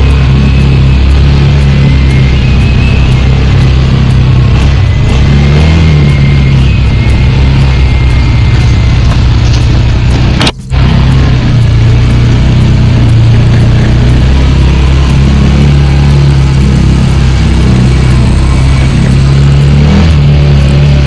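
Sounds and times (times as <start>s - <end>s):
atv engine running: 0.0s - 21.0s
steady rushing noise: 0.0s - 21.0s.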